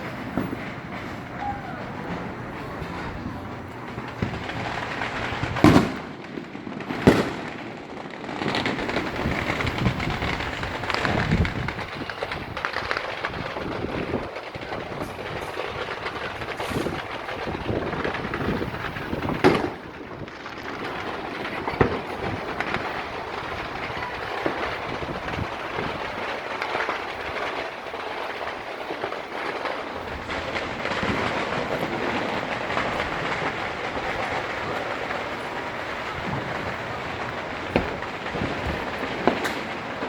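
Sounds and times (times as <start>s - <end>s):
fireworks crackling: 0.0s - 40.0s
loud fireworks bangs: 0.0s - 40.0s.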